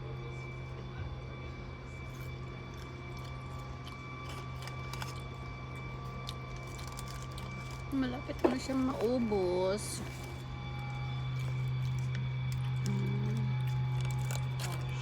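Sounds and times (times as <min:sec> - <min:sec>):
steady low hum: 0:00.0 - 0:15.0
person chewing fries: 0:01.7 - 0:09.3, 0:09.9 - 0:15.0.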